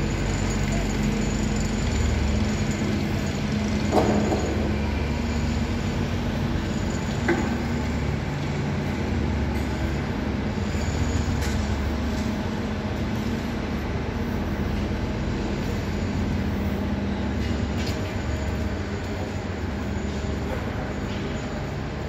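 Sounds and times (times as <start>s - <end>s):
train running hum: 0.0s - 22.0s.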